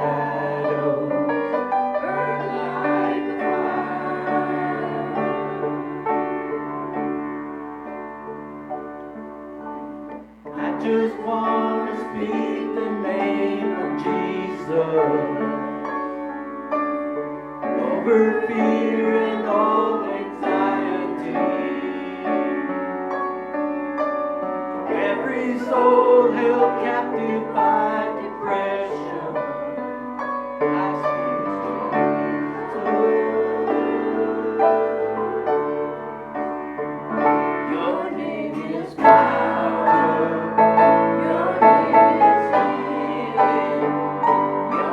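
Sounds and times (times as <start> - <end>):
piano worship music: 0.0 - 44.9.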